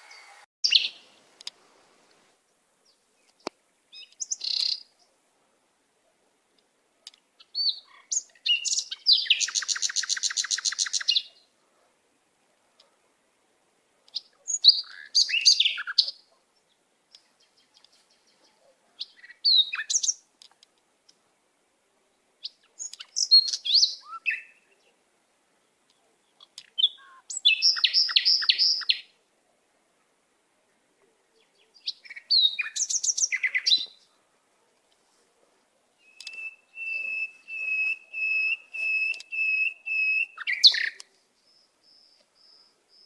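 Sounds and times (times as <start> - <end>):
songbird singing: 0.0 - 43.0.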